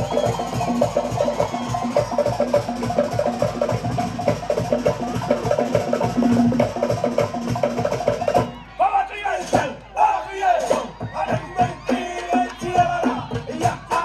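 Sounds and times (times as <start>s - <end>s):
deep drum beats: 0.0s - 8.6s, 9.4s - 9.9s, 10.6s - 14.0s.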